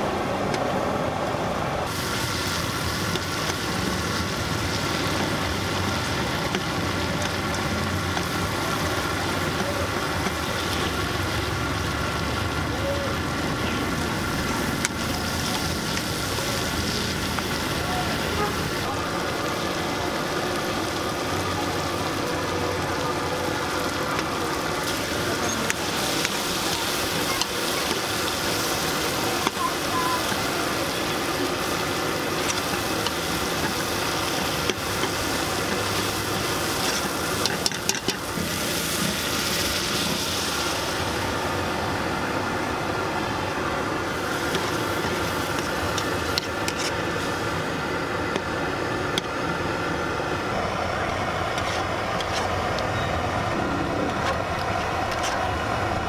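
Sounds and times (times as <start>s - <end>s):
vegetables sizzling in oil: 1.8s - 56.0s.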